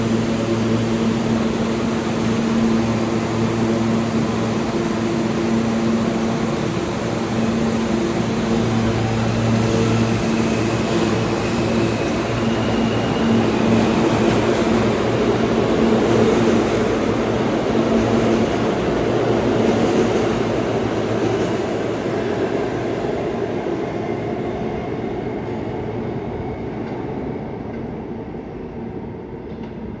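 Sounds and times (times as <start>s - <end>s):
wheels rumbling on rail: 0.0s - 27.9s.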